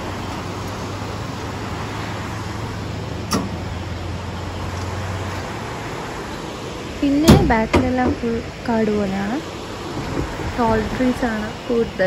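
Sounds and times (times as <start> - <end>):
vehicle engine humming: 0.0 - 12.0
waterfall rushing: 0.0 - 12.0.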